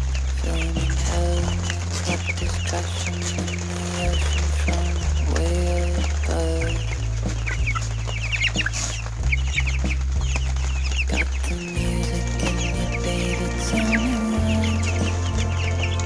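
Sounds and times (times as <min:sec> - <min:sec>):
background music with bass line: 0:00.0 - 0:16.0
chicks peeping: 0:00.0 - 0:16.0.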